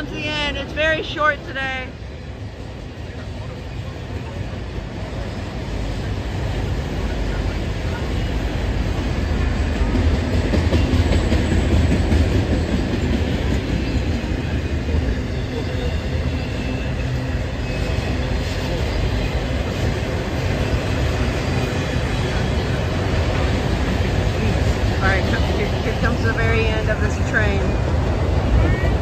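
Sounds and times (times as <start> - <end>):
freight cars rumbling on rails: 0.0 - 29.0.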